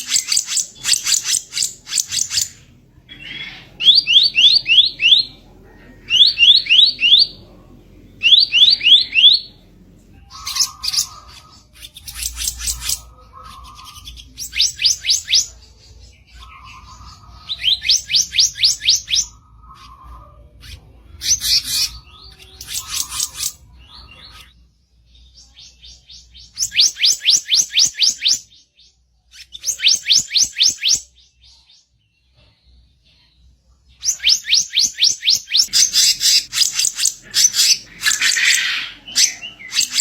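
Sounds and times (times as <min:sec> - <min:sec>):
bird harsh chirping song: 0:00.0 - 0:40.0.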